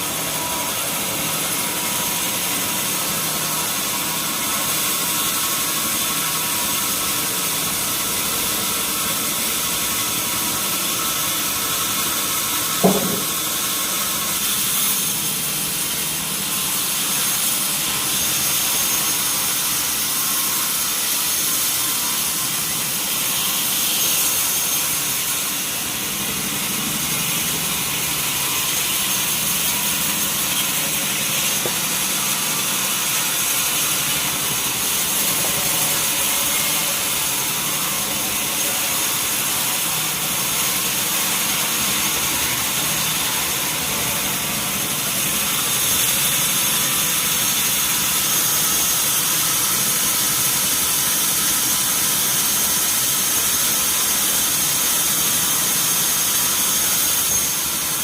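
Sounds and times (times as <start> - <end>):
sawmill saw machinery running: 0.0 - 58.0.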